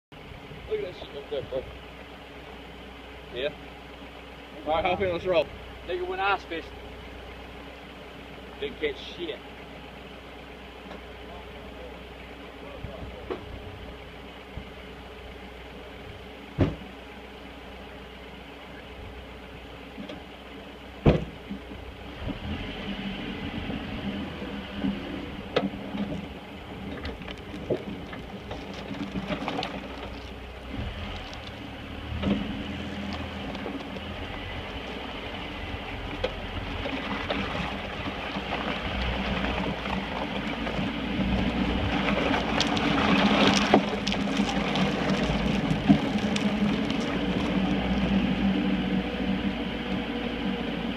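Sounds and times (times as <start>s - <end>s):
truck engine drone: 0.0s - 50.9s.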